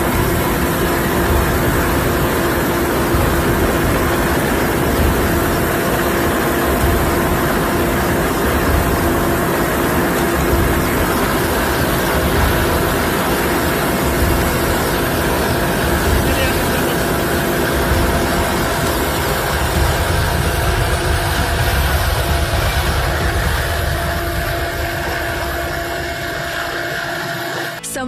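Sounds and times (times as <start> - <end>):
helicopter engine and rotor drone: 0.0 - 27.9.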